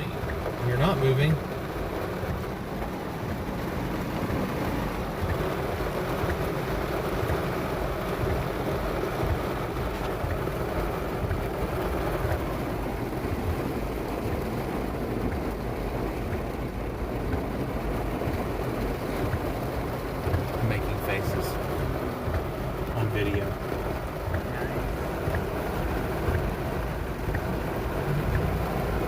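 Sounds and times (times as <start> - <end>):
rain falling on a car: 0.0 - 29.0.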